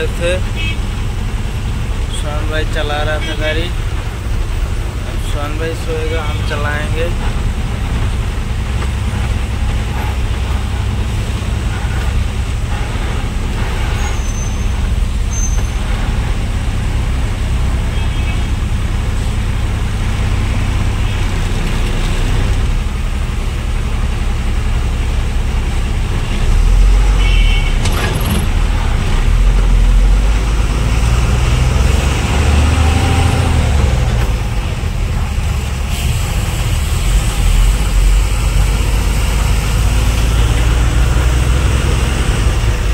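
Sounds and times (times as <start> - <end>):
road noise: 0.0 - 42.9
truck diesel engine rumble: 0.0 - 42.9.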